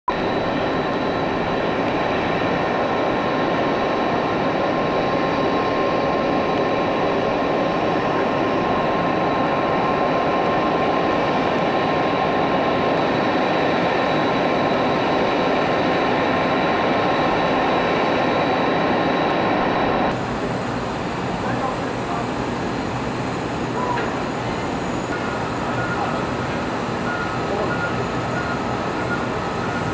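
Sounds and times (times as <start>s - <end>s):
high jet whine: 0.1s - 29.9s
jet engines idling: 0.1s - 29.9s.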